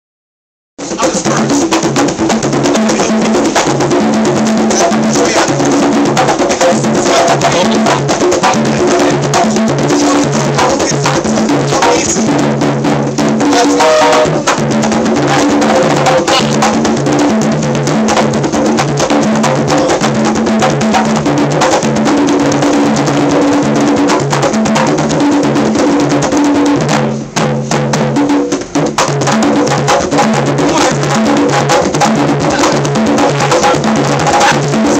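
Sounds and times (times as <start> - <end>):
conga drums played by hand: 0.8 - 34.9.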